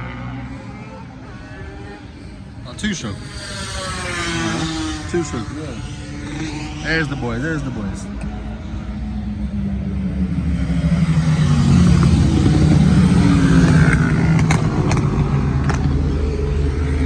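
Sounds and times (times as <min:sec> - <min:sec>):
motorcycle engines passing: 0:00.0 - 0:17.0.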